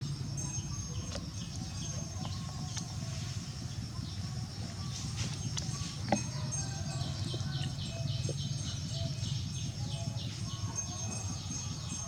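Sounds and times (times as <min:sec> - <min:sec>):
steady low hum: 0:00.0 - 0:12.0
bird chirping: 0:00.3 - 0:12.0.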